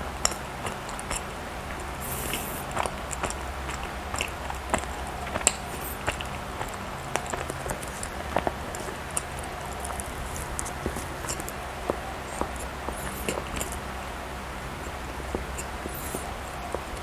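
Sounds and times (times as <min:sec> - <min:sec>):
chewing soft bread: 0:00.0 - 0:17.0
low steady hum: 0:00.0 - 0:17.0.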